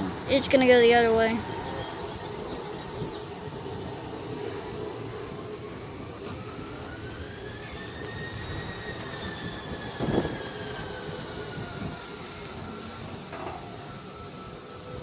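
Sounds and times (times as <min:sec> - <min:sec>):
distant jet engines whining: 0:00.0 - 0:15.0.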